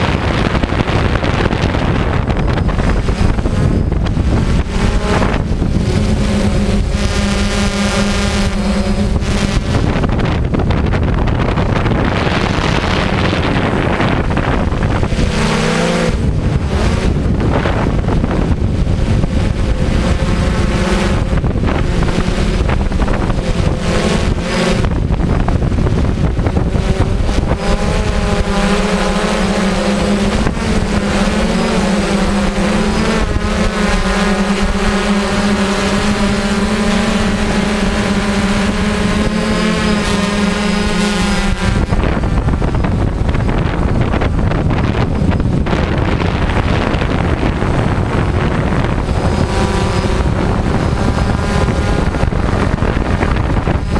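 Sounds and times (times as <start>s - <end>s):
drone propellers buzzing: 0.0s - 53.9s
wind buffeting microphone: 0.0s - 53.9s.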